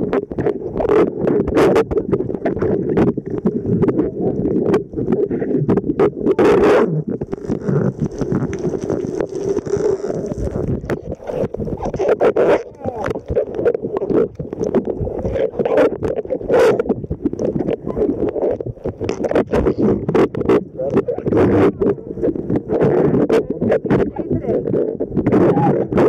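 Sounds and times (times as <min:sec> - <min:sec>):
muffled underwater noise: 0:00.0 - 0:26.0
rush of water: 0:00.0 - 0:26.0.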